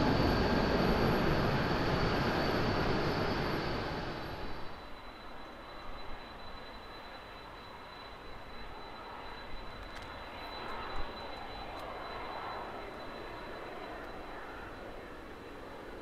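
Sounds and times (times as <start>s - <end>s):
jet engines taxiing: 0.0s - 16.0s.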